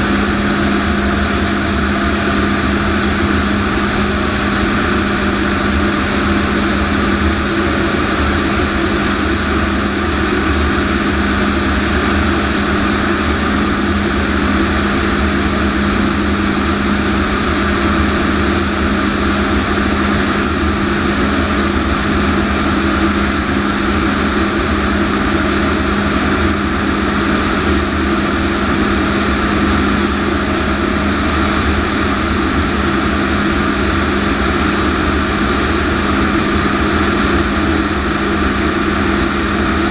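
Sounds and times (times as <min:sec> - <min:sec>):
constant low hum: 0:00.0 - 0:39.9
jet engine and rushing airflow: 0:00.0 - 0:39.9.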